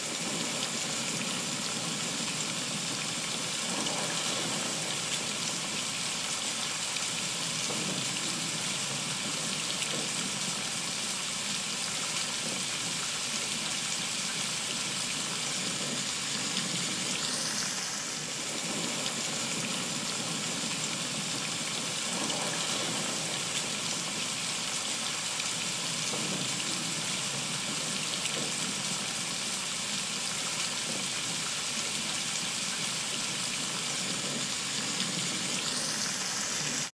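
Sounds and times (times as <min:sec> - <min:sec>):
heavy rain on forest and deck: 0:00.0 - 0:36.9.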